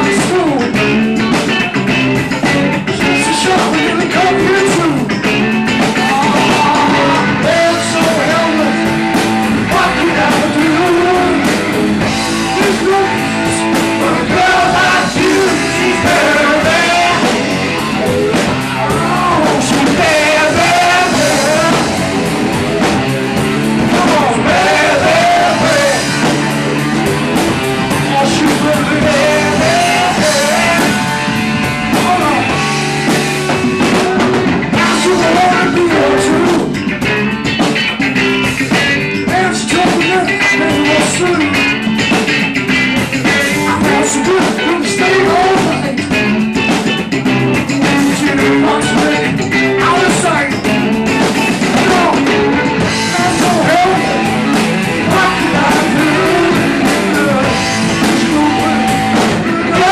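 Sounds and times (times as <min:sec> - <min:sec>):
man singing: 0:00.0 - 0:01.3, 0:02.8 - 0:22.1, 0:23.8 - 0:26.4, 0:27.8 - 0:36.9, 0:39.2 - 0:42.2, 0:43.2 - 0:46.6, 0:47.7 - 0:50.9, 0:51.6 - 0:59.9
drums: 0:00.0 - 0:59.9
electric guitar: 0:00.0 - 0:59.9.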